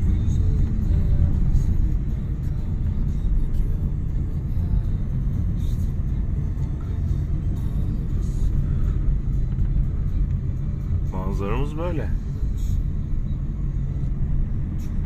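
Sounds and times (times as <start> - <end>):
car engine rumble: 0.0 - 15.0
tyres on the road: 0.0 - 15.0.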